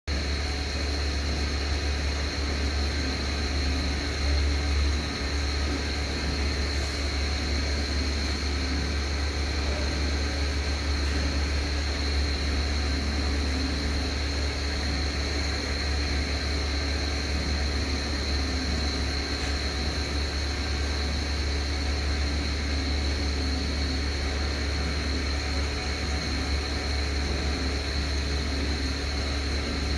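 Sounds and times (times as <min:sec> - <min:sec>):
electric fan humming and whining: 0:00.1 - 0:29.9.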